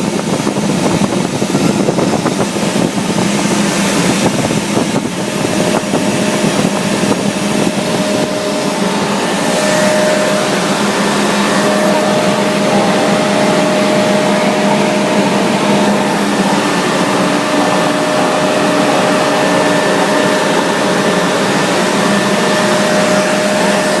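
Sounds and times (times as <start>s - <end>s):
machinery running with hum: 0.0s - 24.0s.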